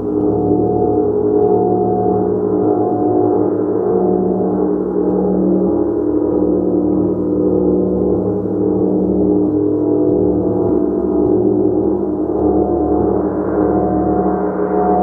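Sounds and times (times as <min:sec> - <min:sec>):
gong sustained tones: 0:00.0 - 0:15.0.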